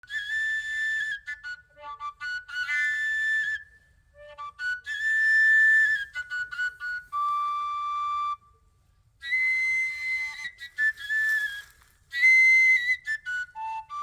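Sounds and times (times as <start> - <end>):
breathy overtone flute melody: 0.0 - 14.0.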